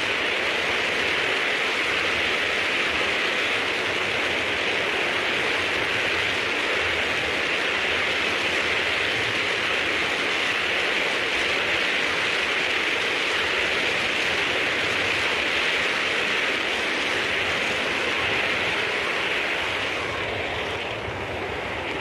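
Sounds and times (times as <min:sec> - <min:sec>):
model train wheels hissing on rails: 0:00.0 - 0:22.0.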